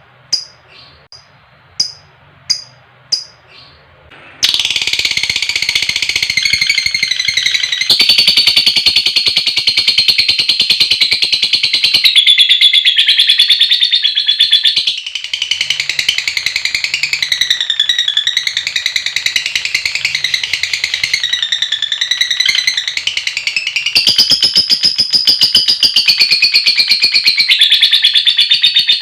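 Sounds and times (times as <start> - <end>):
lovebird chattering trill: 0.3 - 3.8, 4.4 - 29.0.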